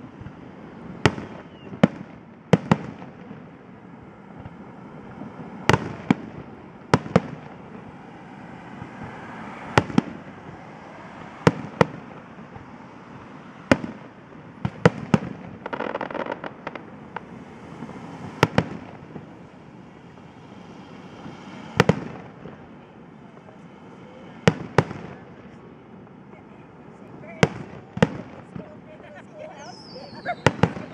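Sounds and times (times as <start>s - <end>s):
fireworks bursting in sharp bangs: 0.0s - 30.9s
fireworks crackling: 0.0s - 30.9s.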